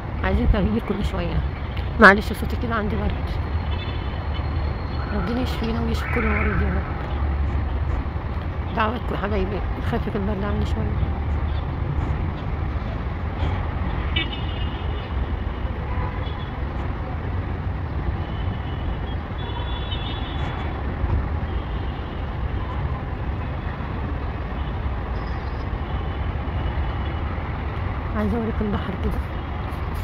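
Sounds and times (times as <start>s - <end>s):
low rumble of road traffic: 0.0s - 30.0s.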